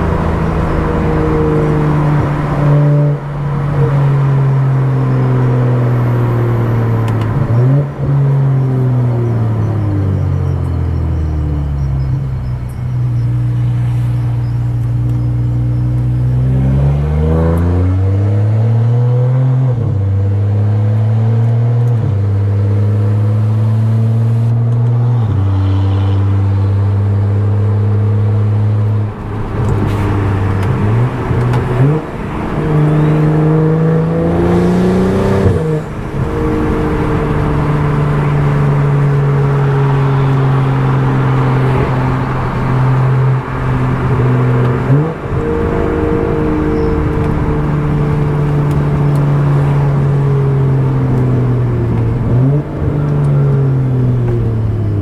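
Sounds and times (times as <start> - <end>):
car engine through loud exhaust: 0.0 - 55.0.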